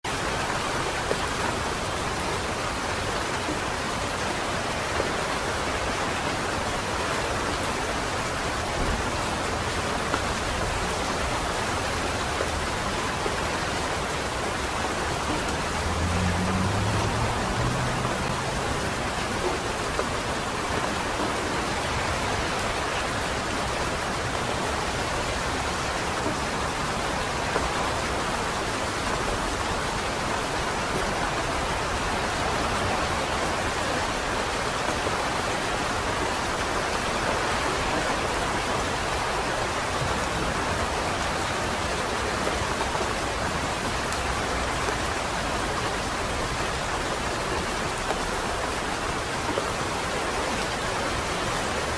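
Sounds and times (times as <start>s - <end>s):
rain on wet street: 0.0s - 51.9s.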